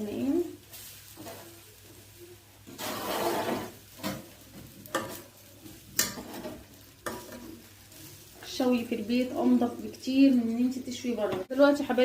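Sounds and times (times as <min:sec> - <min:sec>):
fish sizzling on grill: 0:00.0 - 0:12.0.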